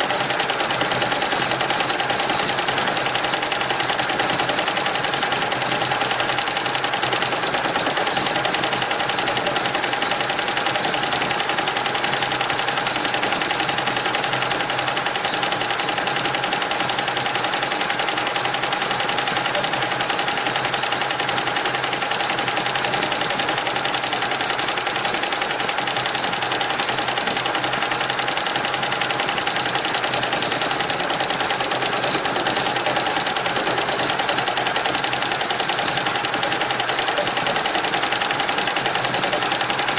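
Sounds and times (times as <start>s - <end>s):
embroidery machine needle clatter: 0.0s - 39.9s
steady machine tone: 0.0s - 39.9s.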